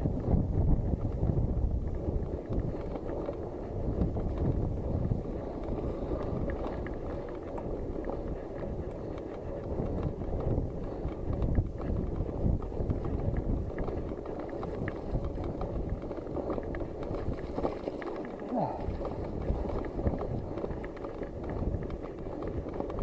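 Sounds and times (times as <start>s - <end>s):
wind buffeting microphone: 0.0s - 23.0s
bike rattles and knocks: 0.1s - 23.0s
tyres rumbling on wet dirt: 1.6s - 23.0s.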